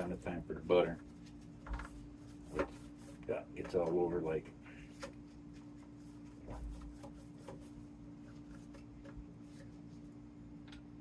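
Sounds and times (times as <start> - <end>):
steady low hum: 0.0 - 11.0
pastry brush rubbing and tapping: 1.0 - 10.1.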